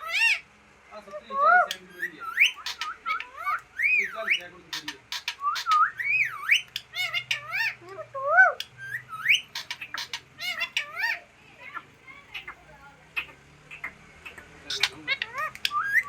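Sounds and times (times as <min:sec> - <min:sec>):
parrot whistling and chattering: 0:00.0 - 0:00.4, 0:01.3 - 0:16.0.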